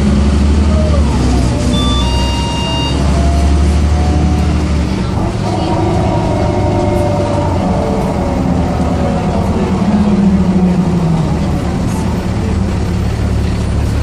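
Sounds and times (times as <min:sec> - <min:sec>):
diesel bus engine drone: 0:00.0 - 0:14.0.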